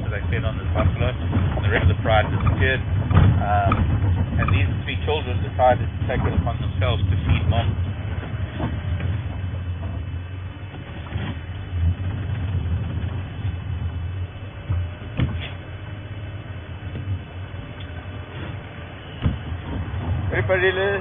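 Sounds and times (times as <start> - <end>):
short knocks and rattles: 0.0 - 21.0
vehicle engine rumbling: 0.0 - 21.0.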